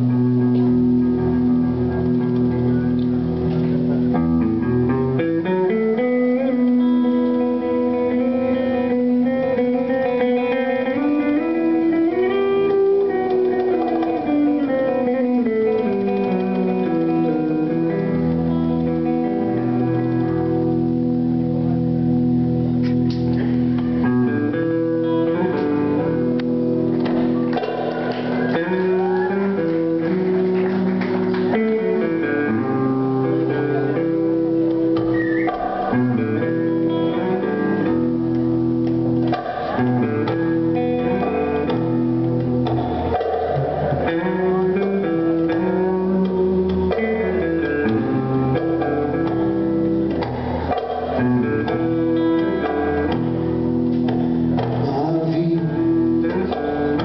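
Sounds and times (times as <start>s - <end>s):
electric guitars: 0.0s - 57.0s
live rock band playing: 0.0s - 57.0s.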